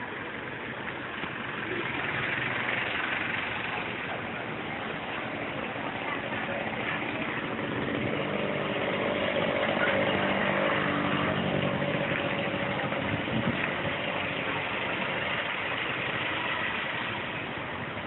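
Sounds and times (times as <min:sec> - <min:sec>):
street background noise: 0:00.0 - 0:18.0
vehicle engine idling: 0:00.0 - 0:18.0.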